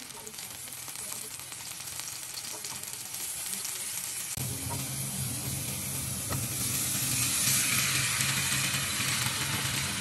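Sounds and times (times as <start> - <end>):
garlic sizzling in hot oil: 0.0 - 10.0.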